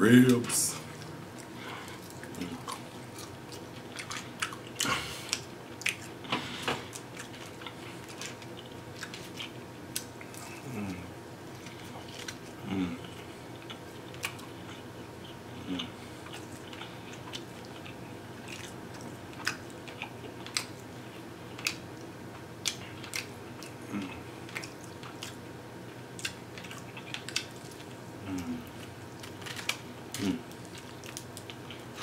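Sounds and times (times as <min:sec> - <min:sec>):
chewing and biting ribs: 0:00.9 - 0:32.0.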